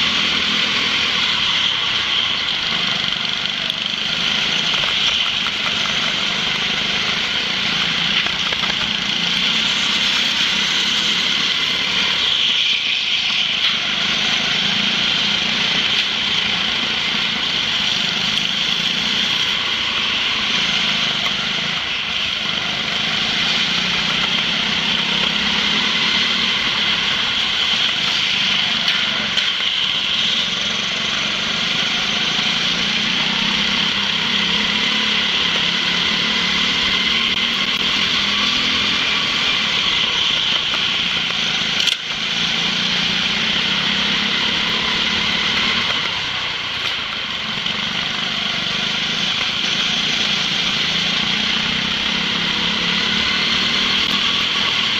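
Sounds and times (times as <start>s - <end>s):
go-kart engines running: 0.0s - 54.9s.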